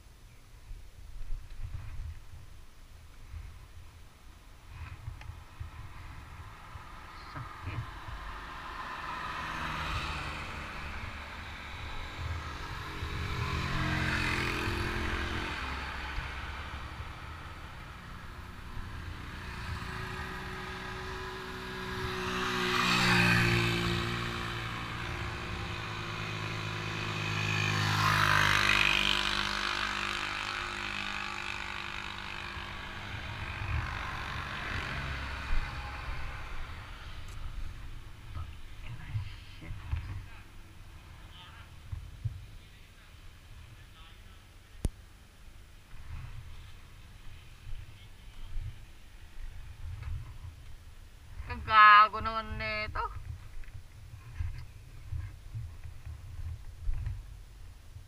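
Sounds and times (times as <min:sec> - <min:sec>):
vehicles passing on road: 0:01.5 - 0:58.0.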